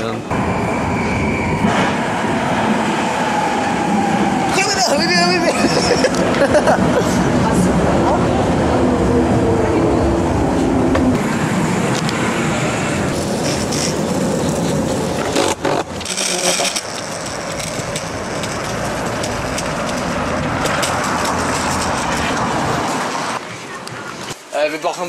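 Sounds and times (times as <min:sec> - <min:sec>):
metro train noise: 0:00.0 - 0:24.6
street traffic: 0:00.0 - 0:25.0
longboard wheels rolling on sidewalk: 0:00.3 - 0:25.0.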